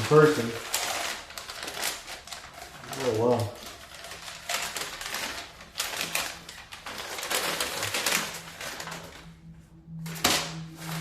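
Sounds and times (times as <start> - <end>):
envelope rustling and crinkling: 0.0 - 9.4.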